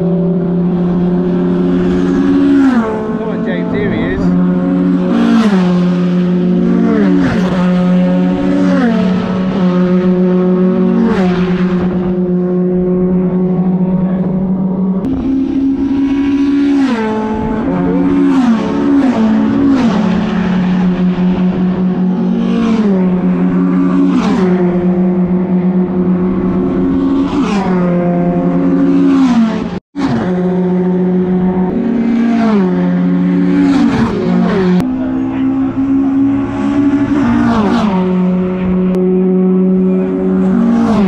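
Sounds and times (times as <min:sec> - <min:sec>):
racing trucks passing by: 0:00.0 - 0:41.0
steady engine drone: 0:00.0 - 0:41.0.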